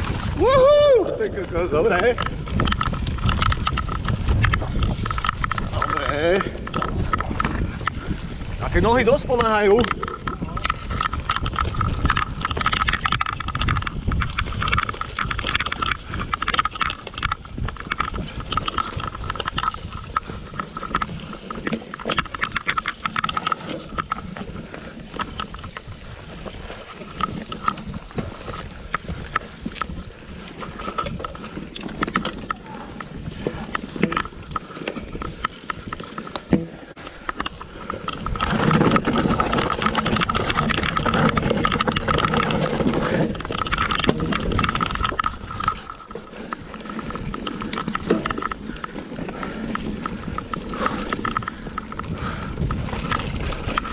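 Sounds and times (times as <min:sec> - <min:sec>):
bike rattles and knocks: 0:00.0 - 0:53.9
bike tyres rolling over dirt: 0:00.0 - 0:53.9.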